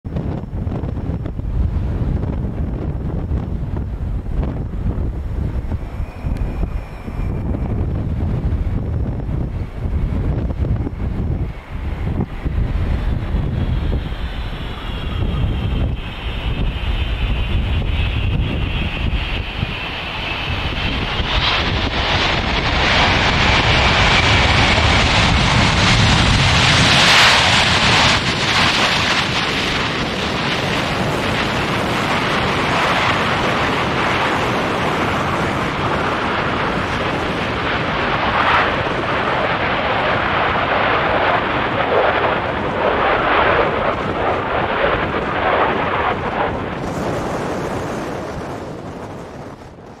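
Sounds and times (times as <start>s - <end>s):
jet engine noise: 0.0s - 50.0s
wind buffeting microphone: 0.0s - 50.0s.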